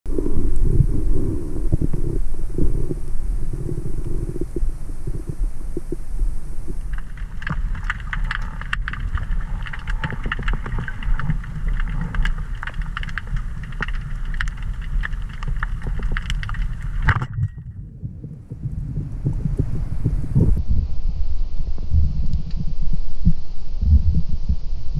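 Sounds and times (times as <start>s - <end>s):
underwater clicks and crackles: 0.1s - 20.6s, 22.3s - 22.6s
underwater rumble: 0.1s - 24.9s.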